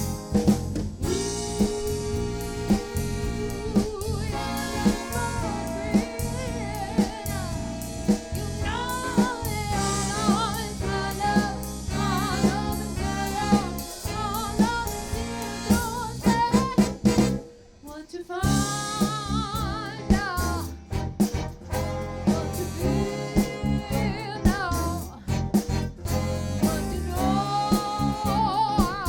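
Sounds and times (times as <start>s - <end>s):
drum kit beat: 0.0s - 29.0s
soul band lead melody: 0.0s - 29.0s.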